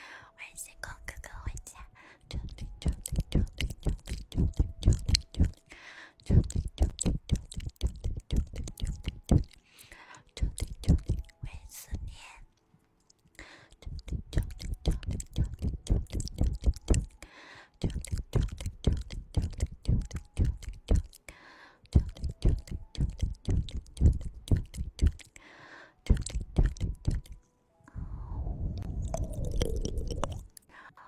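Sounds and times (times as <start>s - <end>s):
tongue clicks and wet mouth sounds: 2.3s - 11.5s, 13.0s - 25.4s, 26.0s - 27.4s, 28.8s - 30.7s.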